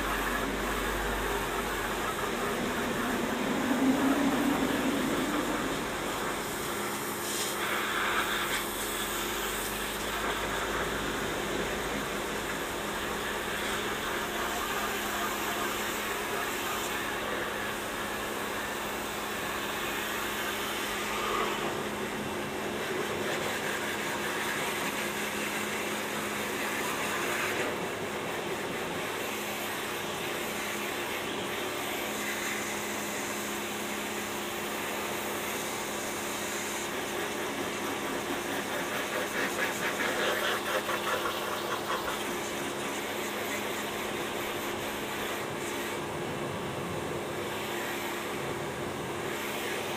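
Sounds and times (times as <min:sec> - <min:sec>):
pressure washer humming: 0:00.0 - 0:46.2
water jet hissing on car: 0:00.0 - 0:49.9.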